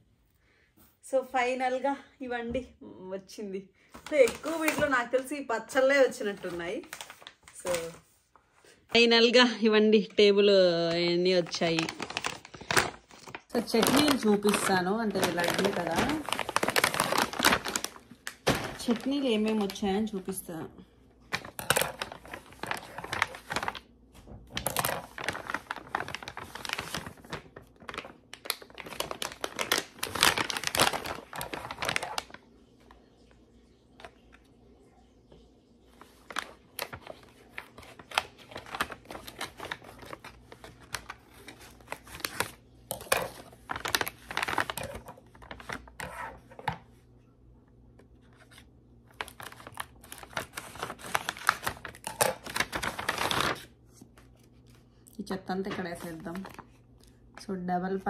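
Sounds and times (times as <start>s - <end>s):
plastic packaging crinkling: 4.0s - 8.0s, 10.7s - 20.6s, 21.2s - 34.4s, 35.7s - 47.0s, 47.9s - 57.4s.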